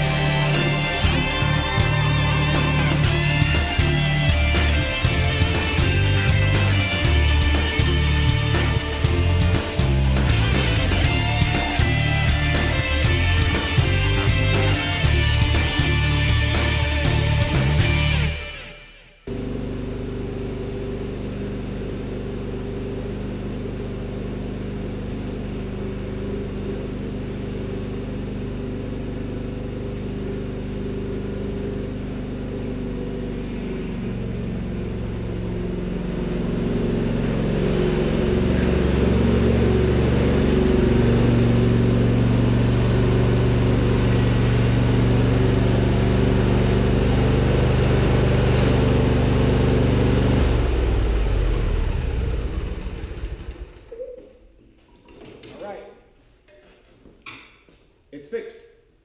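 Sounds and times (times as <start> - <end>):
lawn tractor engine running: 0.0 - 18.3, 19.3 - 53.9.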